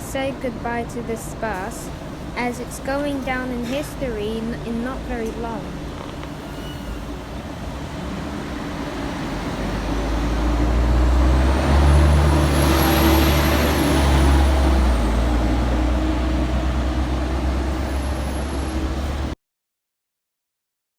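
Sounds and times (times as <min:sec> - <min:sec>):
bus diesel engine driving past: 0:00.0 - 0:19.4.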